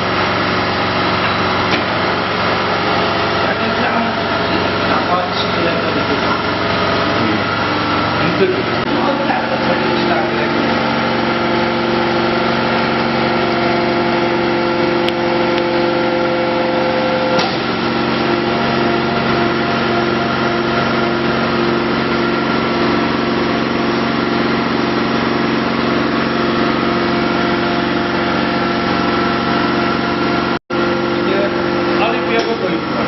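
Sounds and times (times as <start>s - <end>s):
forging machine humming: 0.0s - 33.0s.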